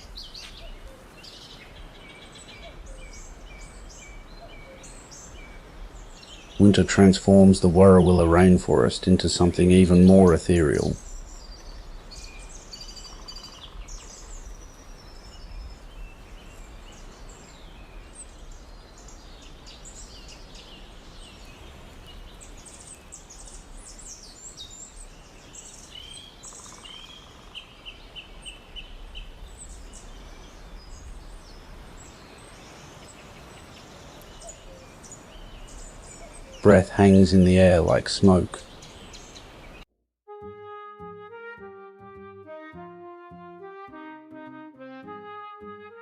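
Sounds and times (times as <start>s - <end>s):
low background hiss: 0.0s - 39.8s
forest birds chirping: 0.0s - 39.9s.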